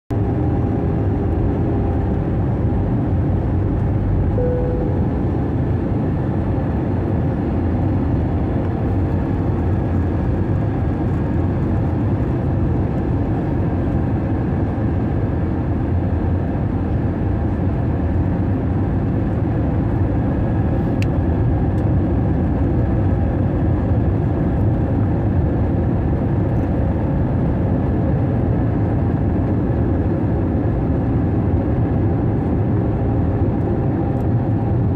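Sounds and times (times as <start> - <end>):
airplane cabin engine rumble: 0.1 - 34.9.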